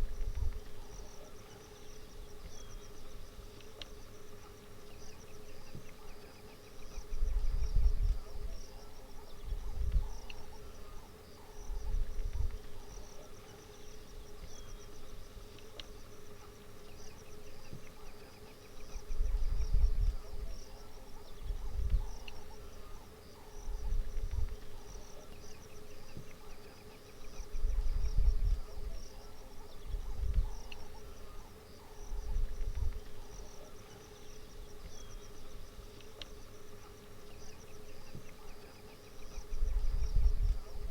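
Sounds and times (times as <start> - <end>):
faint steady hum: 0.0 - 40.9
insects chirping: 0.0 - 40.9.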